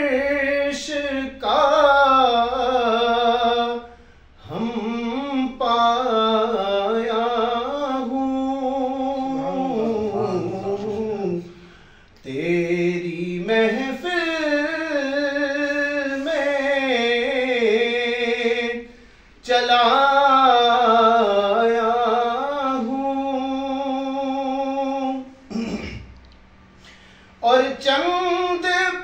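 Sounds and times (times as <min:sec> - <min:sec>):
man singing unaccompanied: 0:00.0 - 0:25.4, 0:27.4 - 0:29.0.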